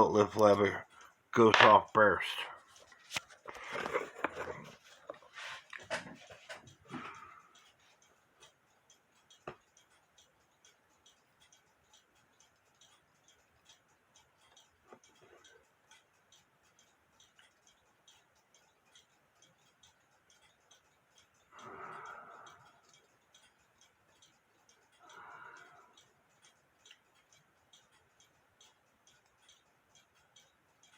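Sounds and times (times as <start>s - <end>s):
clock ticking: 0.0s - 30.9s.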